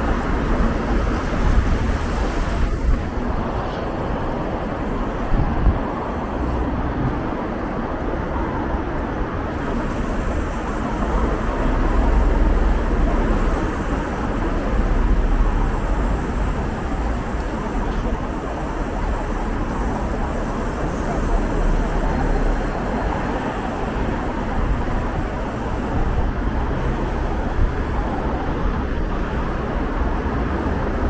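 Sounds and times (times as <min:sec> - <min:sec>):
rumble of passing vehicles: 0:00.0 - 0:31.0.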